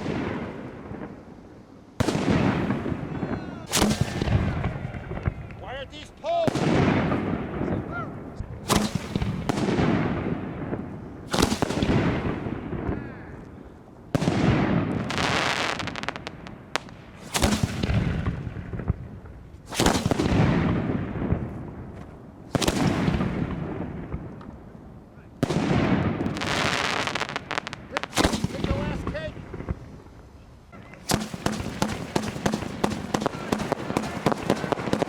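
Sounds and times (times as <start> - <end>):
fireworks booming: 0.0 - 35.0
rapid fireworks crackling: 0.0 - 35.0.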